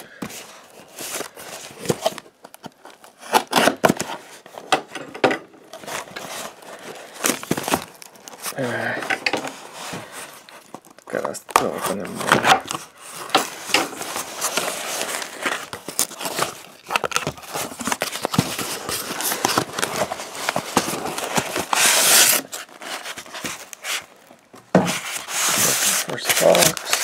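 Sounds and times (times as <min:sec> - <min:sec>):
cardboard and tape scraping: 0:00.3 - 0:04.6, 0:05.7 - 0:24.2, 0:24.8 - 0:27.0.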